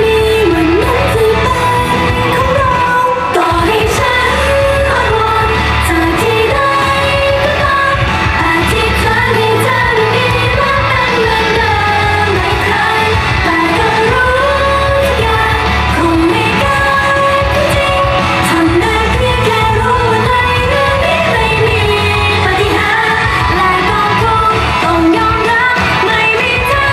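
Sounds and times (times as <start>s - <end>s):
pop backing music with low beat: 0.0s - 26.9s
women singing into microphones: 0.0s - 26.9s.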